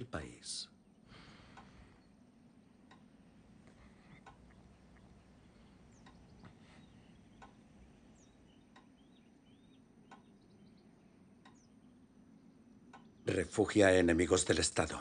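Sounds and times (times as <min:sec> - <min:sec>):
faint bird chirps: 0:00.0 - 0:15.0
faint ticking: 0:00.0 - 0:15.0.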